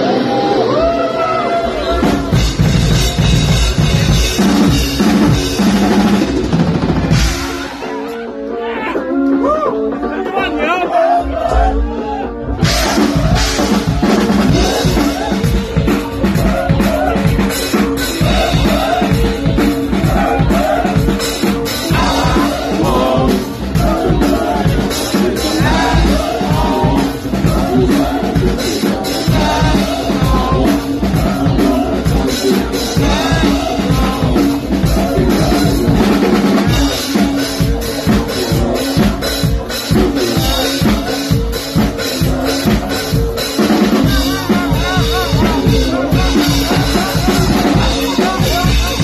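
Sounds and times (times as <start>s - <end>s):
heavy bass guitar: 0.0s - 10.1s, 11.3s - 49.0s
fast dense drumming: 1.7s - 7.8s, 12.6s - 49.0s.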